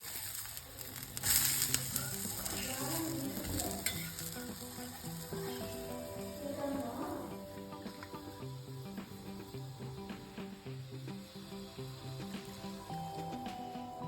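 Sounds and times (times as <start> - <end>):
food sizzling on hot pan: 0.0 - 14.0
soft background music: 0.2 - 14.0.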